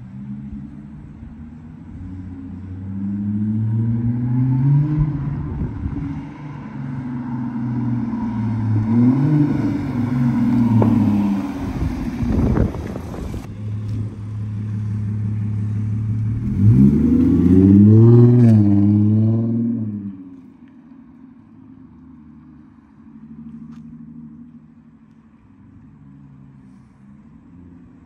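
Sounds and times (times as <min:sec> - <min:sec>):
car engine and exhaust: 0:00.0 - 0:28.0.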